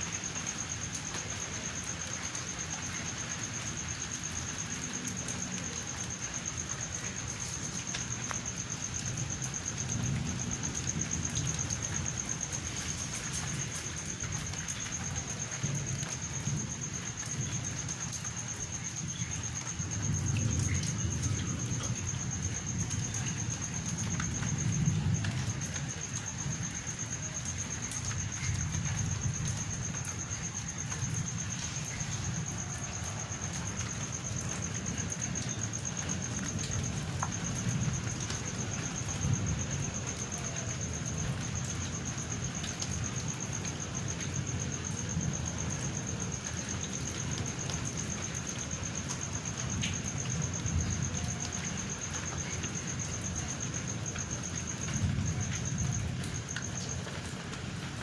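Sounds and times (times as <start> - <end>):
steady rain: 0.0 - 58.0
low thunder rumble: 4.8 - 58.0.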